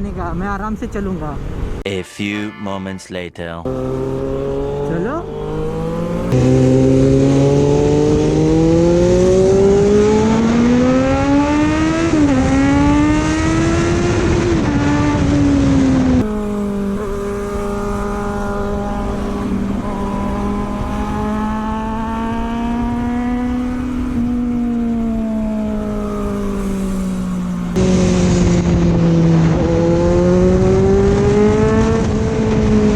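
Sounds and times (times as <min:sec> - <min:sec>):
motorcycle engine accelerating: 0:03.7 - 0:32.9.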